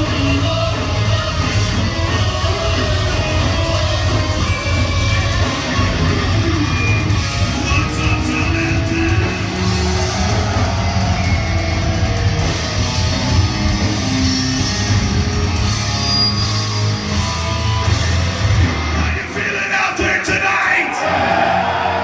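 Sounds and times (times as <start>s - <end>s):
heavy bass notes: 0.0s - 19.5s
distorted electric guitars: 0.0s - 22.0s.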